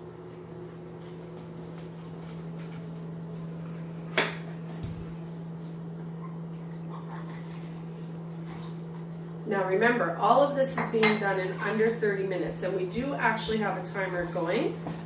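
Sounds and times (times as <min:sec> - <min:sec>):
microwave oven hum: 0:00.0 - 0:15.0.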